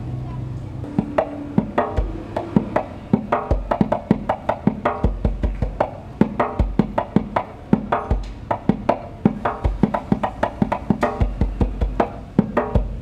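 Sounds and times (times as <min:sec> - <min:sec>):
deep bass drum stroke: 0:00.8 - 0:12.1
hand drum sharp slaps: 0:01.0 - 0:13.0.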